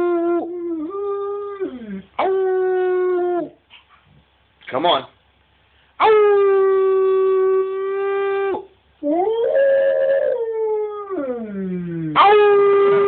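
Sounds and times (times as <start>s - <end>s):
dog howling: 0.0s - 3.6s, 6.0s - 13.0s.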